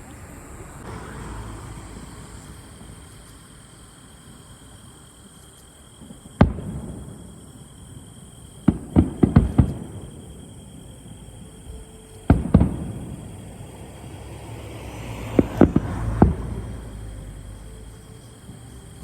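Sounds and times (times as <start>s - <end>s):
fireworks booming: 0.0s - 19.0s.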